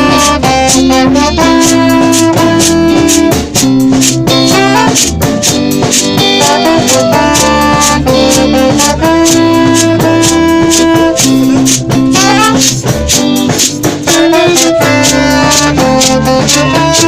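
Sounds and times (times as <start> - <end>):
reggae band playing: 0.0 - 17.0.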